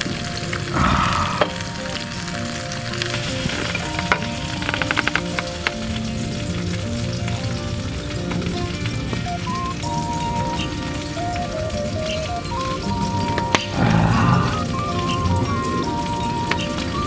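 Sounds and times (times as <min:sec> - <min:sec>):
campfire crackling: 0:00.0 - 0:17.0
soft instrumental music: 0:00.0 - 0:17.0.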